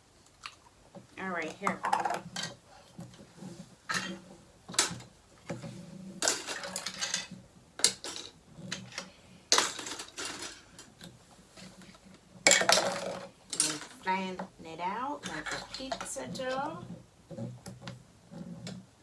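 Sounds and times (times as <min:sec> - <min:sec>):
plastic tubs clattering on table: 0:01.4 - 0:14.6, 0:15.2 - 0:18.9.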